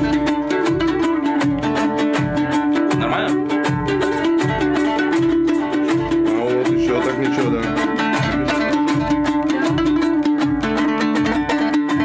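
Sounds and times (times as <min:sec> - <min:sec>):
plucked string instrument strummed: 0:00.0 - 0:12.0.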